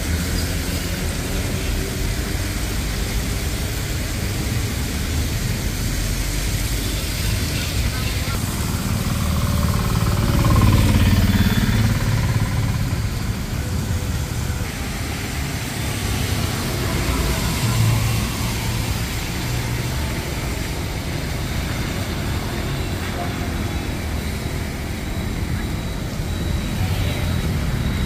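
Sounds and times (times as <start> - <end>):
tyres hissing on wet road: 0.0 - 28.0
vehicle engines passing: 0.0 - 28.0
rain rushing: 0.1 - 25.0.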